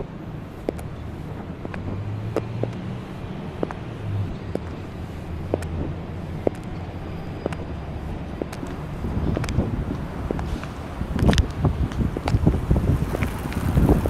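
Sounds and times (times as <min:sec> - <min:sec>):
car traffic hum: 0:00.0 - 0:14.0
high heels clicking on pavement: 0:00.6 - 0:02.9, 0:03.5 - 0:03.9, 0:04.5 - 0:06.8, 0:07.4 - 0:14.0.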